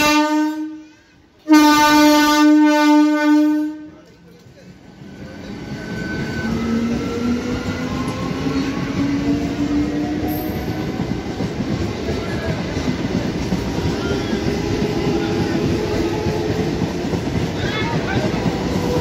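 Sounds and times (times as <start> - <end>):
rumble of carriages: 3.7 - 19.0.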